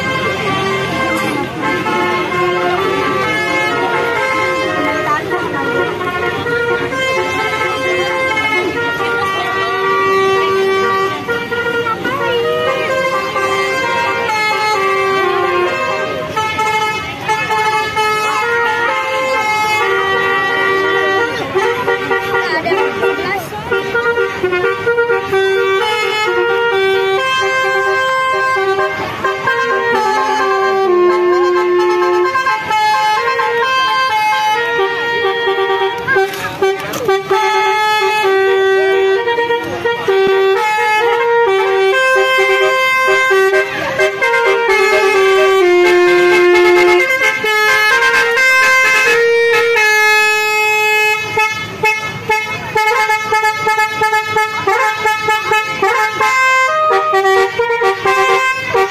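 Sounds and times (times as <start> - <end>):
musical horn playing a tune: 0.0 - 58.9.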